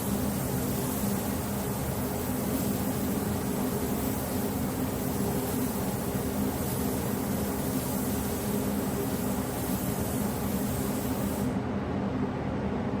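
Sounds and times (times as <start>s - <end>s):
mechanical hum with low drone: 0.0s - 13.0s.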